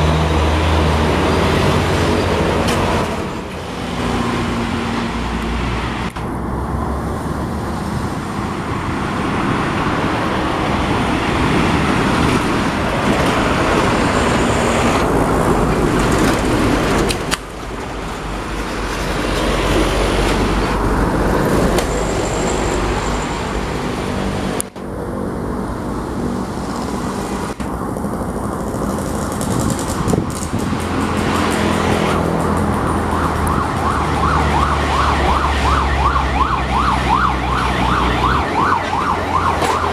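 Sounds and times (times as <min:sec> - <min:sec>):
diesel trucks rumbling: 0:00.0 - 0:39.9
tyre and road noise: 0:00.0 - 0:39.9.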